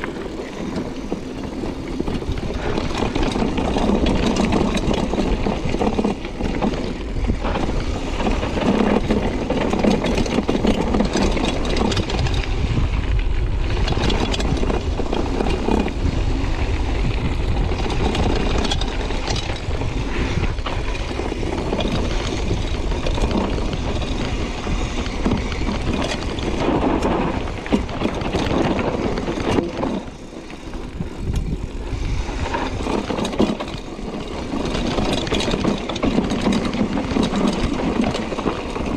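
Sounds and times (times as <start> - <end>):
bike clacks and rattles: 0.0 - 38.9
rushing air and tyres: 0.0 - 38.9.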